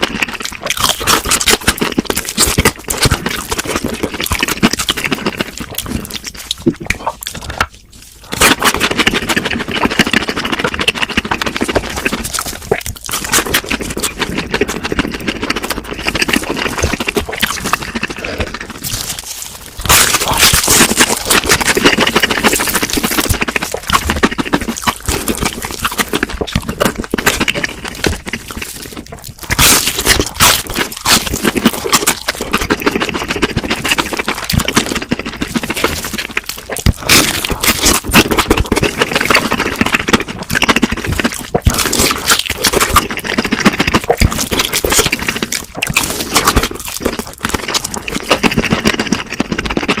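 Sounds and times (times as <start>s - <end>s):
chewing crispy fried food: 0.0s - 50.0s.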